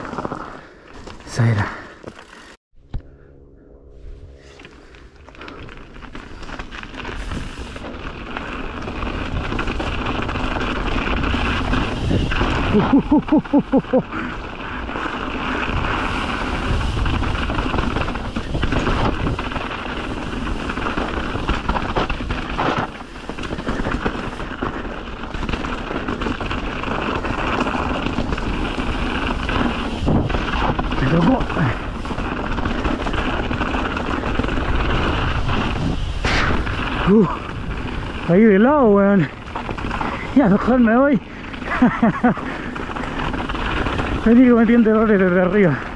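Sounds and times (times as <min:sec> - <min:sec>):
tyres rolling over dirt and rock: 0:00.0 - 0:02.3, 0:04.6 - 0:45.9
wind rushing over microphone: 0:05.6 - 0:45.9.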